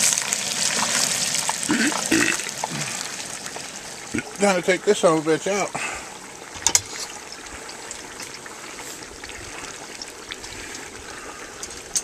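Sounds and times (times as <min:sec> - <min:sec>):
hot oil bubbling and sizzling: 0:00.0 - 0:12.0.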